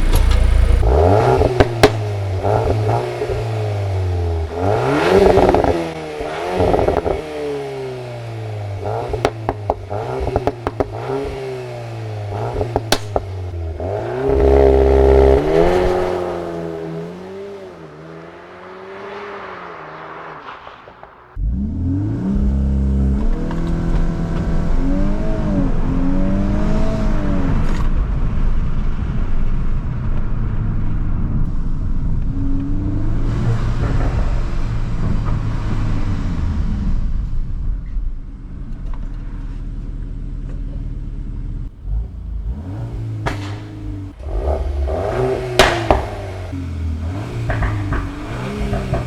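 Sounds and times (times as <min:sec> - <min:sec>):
car engine accelerating: 0:00.0 - 0:38.0, 0:41.2 - 0:49.0
exhaust cracks: 0:00.0 - 0:38.0, 0:41.6 - 0:49.0.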